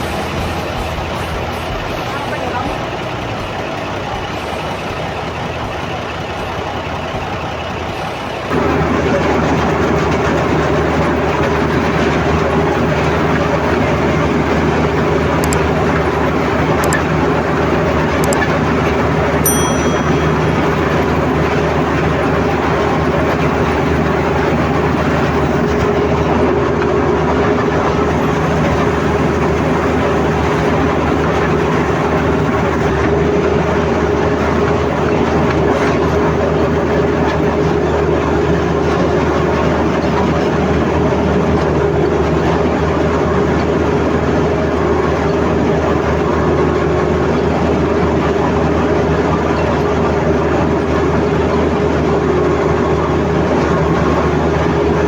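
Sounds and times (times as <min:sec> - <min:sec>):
bulldozer diesel engine under load: 0:00.0 - 0:19.4, 0:20.7 - 0:55.0.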